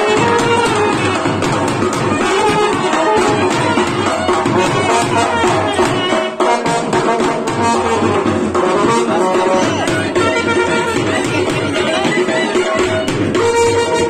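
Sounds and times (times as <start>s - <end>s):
baritone horn: 0.0s - 14.0s
hand-held drum beat: 0.0s - 14.0s
trumpet: 0.0s - 14.0s.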